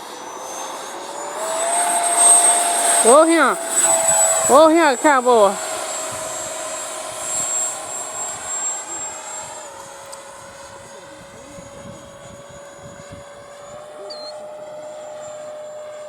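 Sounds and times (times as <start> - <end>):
electric ducted-fan whine: 0.0 - 16.0.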